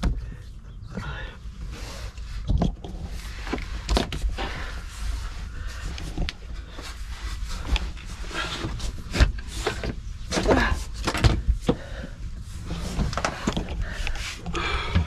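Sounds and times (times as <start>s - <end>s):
steady low rumble: 0.0s - 15.0s
hands handling electrical wiring: 2.4s - 15.0s.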